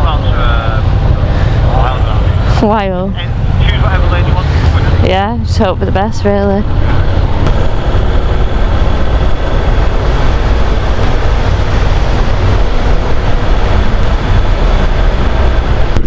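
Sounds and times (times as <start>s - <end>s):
motorcycle engine: 0.0s - 16.0s
wind rush: 0.0s - 16.0s.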